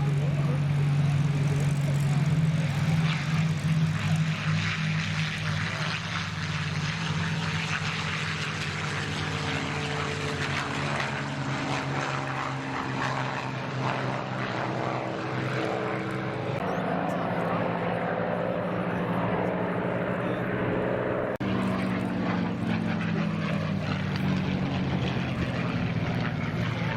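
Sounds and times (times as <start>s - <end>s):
propeller aircraft engine droning: 0.0s - 26.9s.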